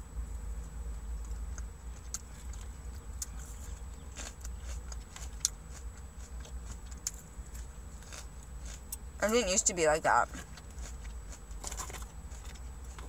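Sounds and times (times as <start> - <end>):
chewing salad: 0.6 - 9.6, 10.2 - 13.0.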